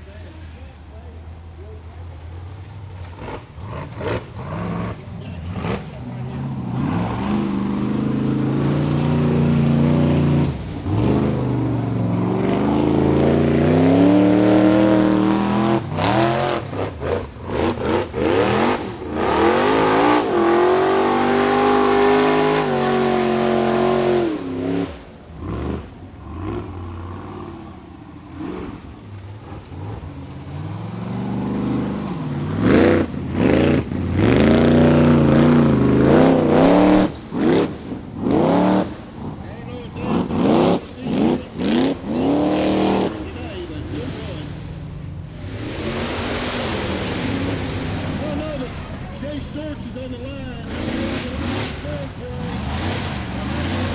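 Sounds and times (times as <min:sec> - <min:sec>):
buggy engine revving hard: 0:00.0 - 0:53.9
sharp throttle chops: 0:03.0 - 0:53.9.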